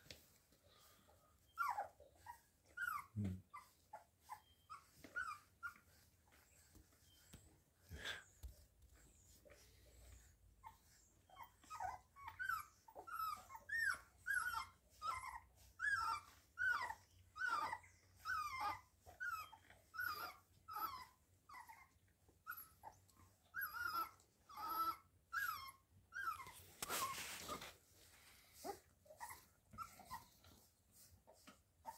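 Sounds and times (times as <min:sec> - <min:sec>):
puppies whimpering: 0:00.1 - 0:31.9.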